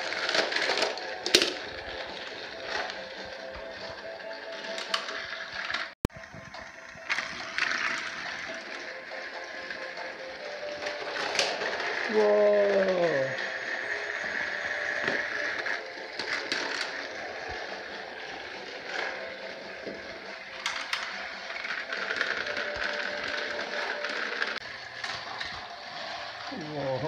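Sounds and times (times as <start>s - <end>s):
toy train motors whirring: 0.0s - 27.0s.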